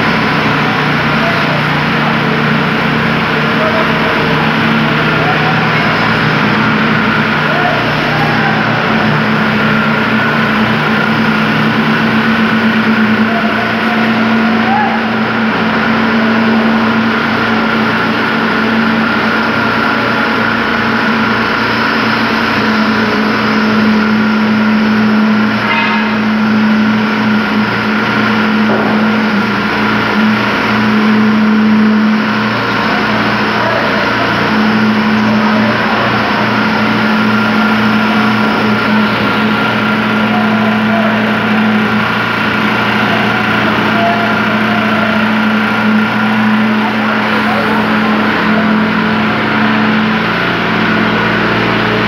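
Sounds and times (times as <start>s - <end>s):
high whine: 0.0s - 52.0s
machinery engine droning: 0.0s - 52.0s.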